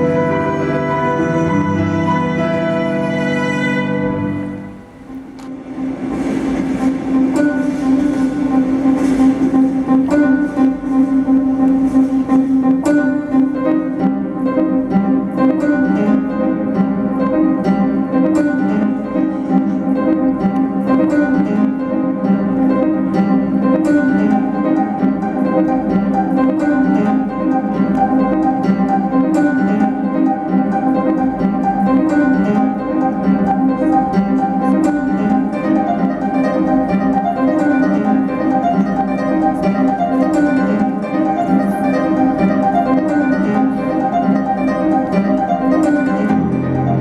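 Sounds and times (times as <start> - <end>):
plucked string music: 0.0 - 47.0.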